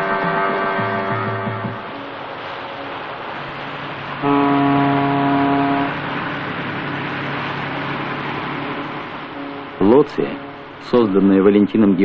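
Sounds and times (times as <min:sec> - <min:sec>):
ship's horn blast: 0:00.0 - 0:11.2
churning water: 0:01.7 - 0:12.0.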